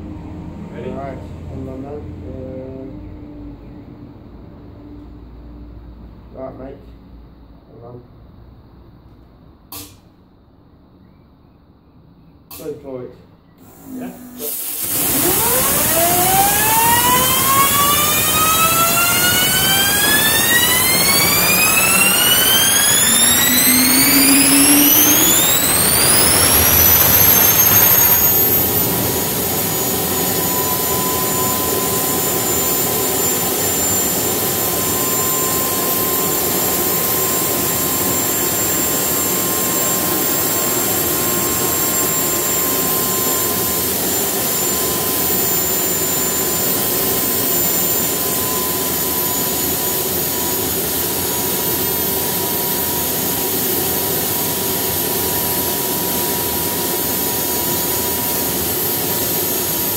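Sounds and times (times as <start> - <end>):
rushing exhaust: 0.0 - 6.8, 13.6 - 59.9
jet engine whine: 0.0 - 9.0, 13.6 - 59.9.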